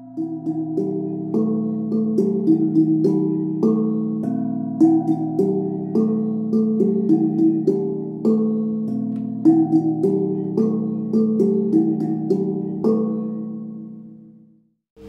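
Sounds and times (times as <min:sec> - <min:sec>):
plucked-string arpeggios: 0:00.0 - 0:14.4.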